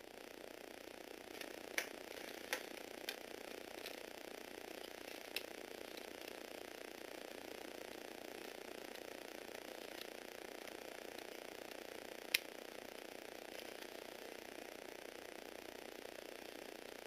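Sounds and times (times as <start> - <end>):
small electric motor whirring: 0.3 - 17.0.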